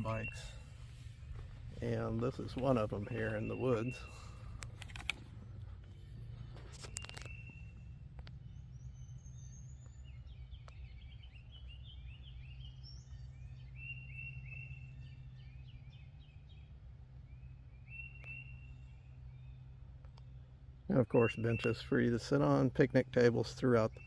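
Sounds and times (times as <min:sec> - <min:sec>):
songbirds chirping: 0:00.0 - 0:24.0
steady low rumble: 0:00.0 - 0:24.0.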